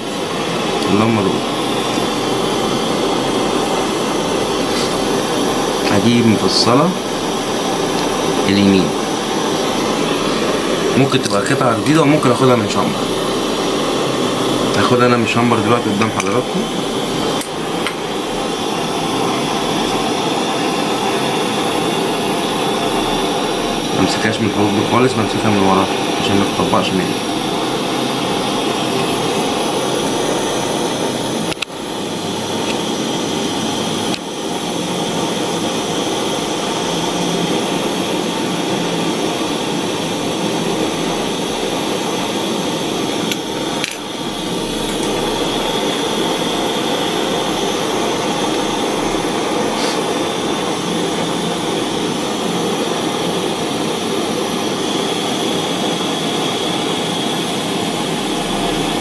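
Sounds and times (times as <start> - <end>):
gas torch hissing: 0.0 - 59.0.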